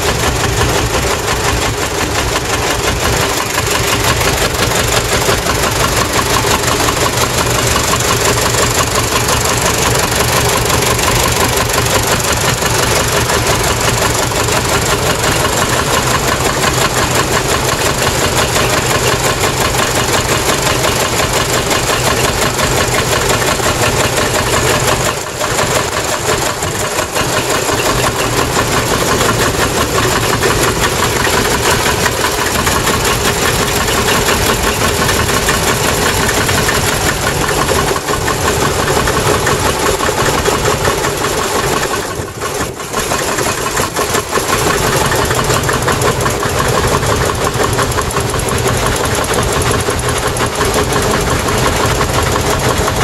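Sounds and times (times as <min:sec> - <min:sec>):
tractor engines idling: 0:00.0 - 0:53.0.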